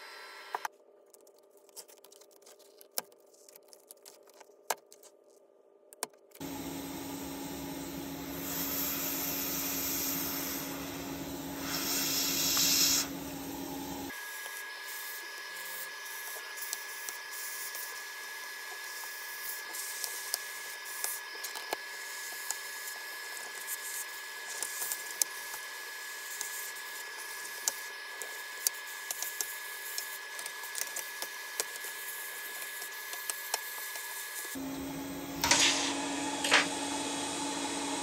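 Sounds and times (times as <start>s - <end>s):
hot air station blowing and whining: 6.4s - 38.0s.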